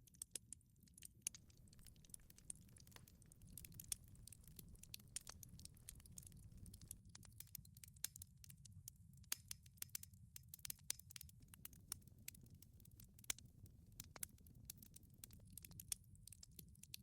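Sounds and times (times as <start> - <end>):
wood fire crackling and popping: 0.0 - 17.0
low fire rumble: 0.3 - 16.9.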